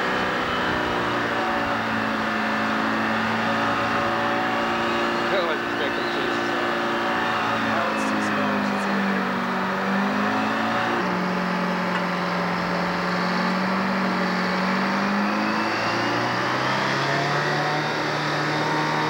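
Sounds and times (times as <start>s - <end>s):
engine running steadily: 0.0s - 19.0s
outboard motor passing: 0.0s - 19.0s.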